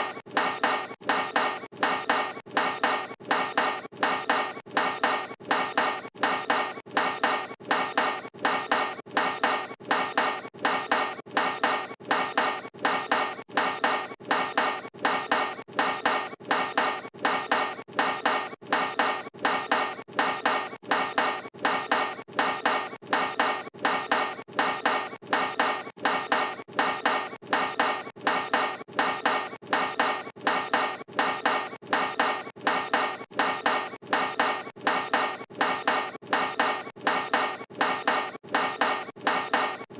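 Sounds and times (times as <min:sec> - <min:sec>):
basketball clanging off metal rim: 0:00.1 - 0:39.9.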